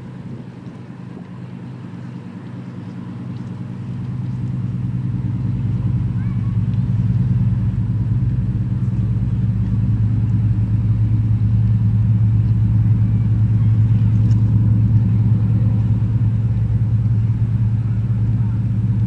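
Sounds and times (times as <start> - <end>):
ferry engines droning: 0.0 - 19.0.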